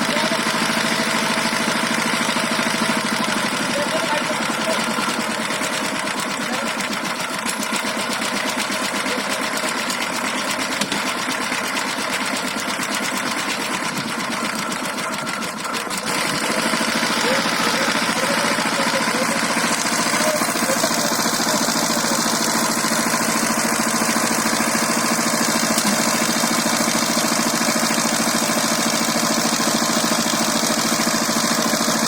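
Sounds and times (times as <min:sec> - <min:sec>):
diesel engine chugging: 0:00.0 - 0:32.0.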